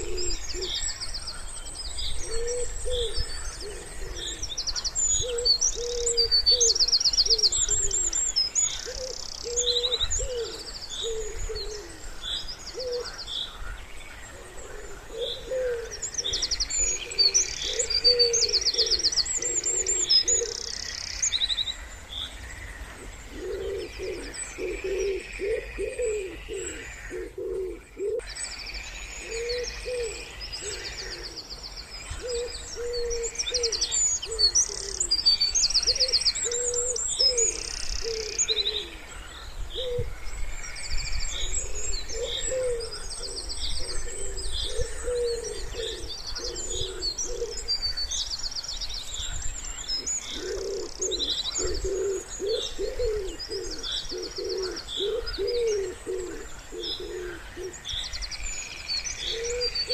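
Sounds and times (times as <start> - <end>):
wood pigeons cooing: 0.0 - 21.3, 22.9 - 28.3, 29.2 - 40.3, 41.2 - 48.1, 49.1 - 58.0, 59.2 - 59.9
songbirds singing high trills: 0.0 - 59.9.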